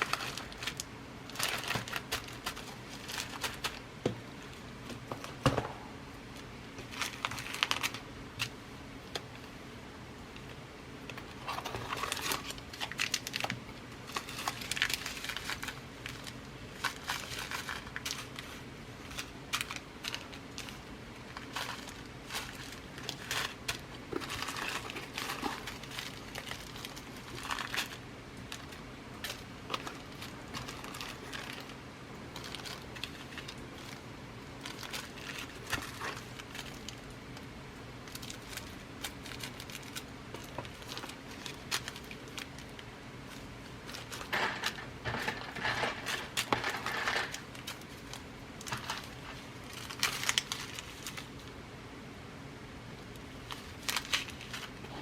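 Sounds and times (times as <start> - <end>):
bead packets rustling and crinkling: 0.0 - 5.4, 6.3 - 9.2, 10.4 - 51.6, 53.0 - 55.0.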